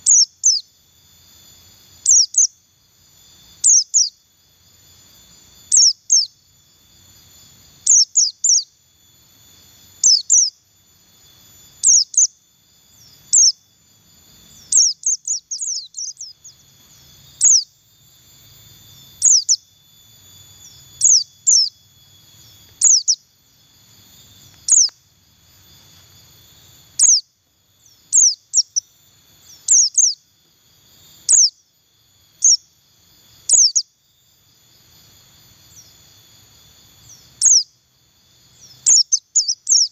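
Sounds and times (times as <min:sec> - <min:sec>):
bird chirping: 0:00.0 - 0:30.3, 0:30.9 - 0:31.7, 0:32.3 - 0:34.1, 0:35.6 - 0:36.1, 0:36.9 - 0:39.9.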